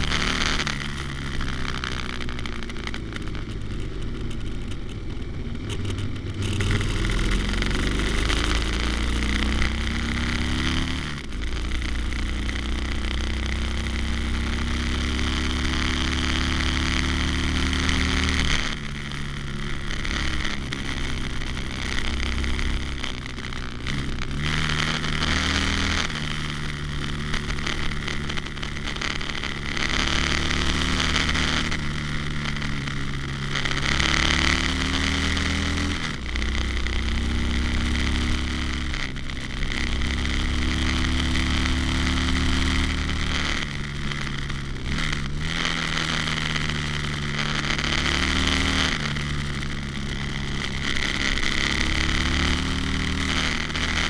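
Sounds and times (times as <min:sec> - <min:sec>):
motorcycle engine revving: 0:00.0 - 0:54.0
wind and road rush: 0:00.0 - 0:54.0.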